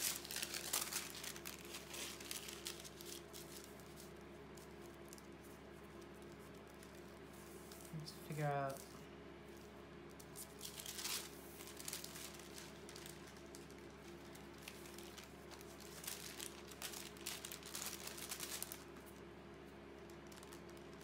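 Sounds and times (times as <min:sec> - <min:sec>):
paper rustling and crinkling: 0:00.0 - 0:19.2, 0:20.0 - 0:21.0.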